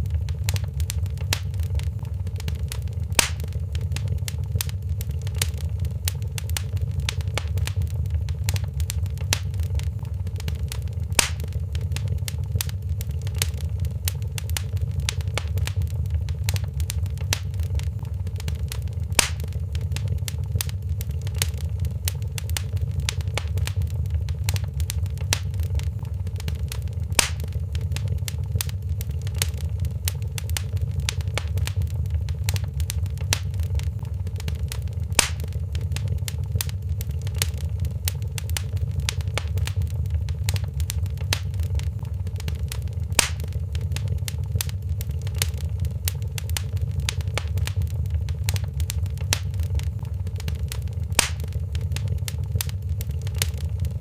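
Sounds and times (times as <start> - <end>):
sharp snaps of fire: 0.0 - 54.0
wood fire crackling: 0.0 - 54.0.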